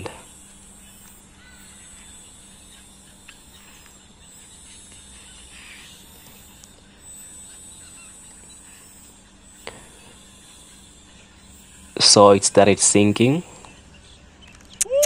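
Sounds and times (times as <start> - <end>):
steady high hiss: 0.0 - 13.8
faint bird chirps: 0.0 - 15.0.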